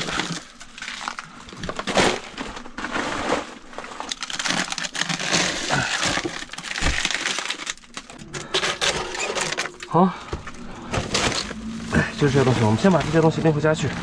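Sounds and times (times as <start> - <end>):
plastic bags crinkling: 0.0 - 13.8
frozen packages crackling and knocking: 0.0 - 14.0.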